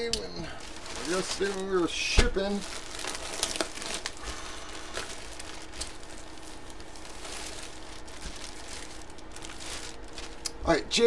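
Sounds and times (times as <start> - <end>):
plastic packaging rustling: 0.0 - 10.6.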